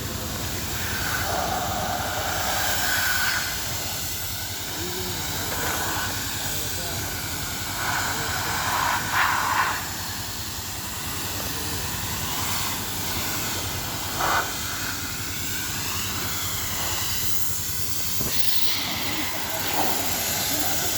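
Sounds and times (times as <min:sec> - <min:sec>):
spray wand hissing: 0:00.0 - 0:20.9.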